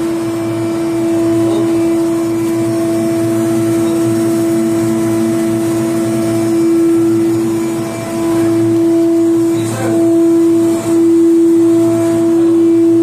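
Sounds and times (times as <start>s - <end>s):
electrical hum with held tone: 0.0s - 13.0s.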